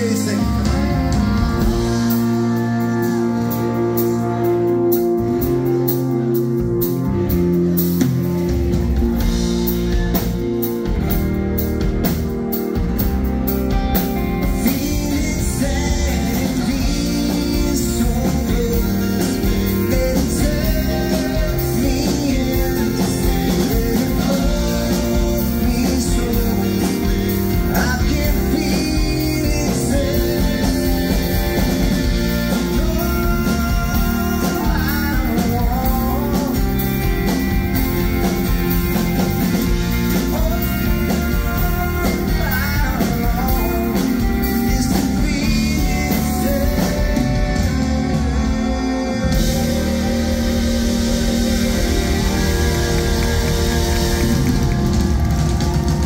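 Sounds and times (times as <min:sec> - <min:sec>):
person singing: 0:00.0 - 0:08.1, 0:14.3 - 0:56.0
drums: 0:00.0 - 0:56.0
electric bass: 0:00.0 - 0:56.0.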